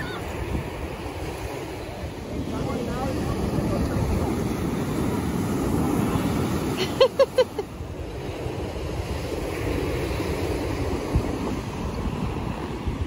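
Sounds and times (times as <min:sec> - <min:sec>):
wind buffeting microphone: 0:00.0 - 0:06.8, 0:07.7 - 0:13.0
ocean surf breaking: 0:00.0 - 0:13.0.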